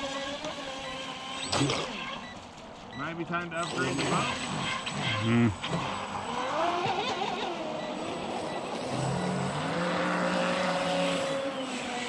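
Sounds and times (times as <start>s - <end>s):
electric motor whining: 0.0s - 2.4s, 3.6s - 12.0s.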